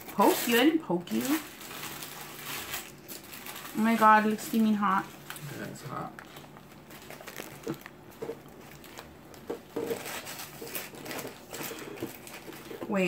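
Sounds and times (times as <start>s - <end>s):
paper wrappers rustling: 0.0s - 13.0s.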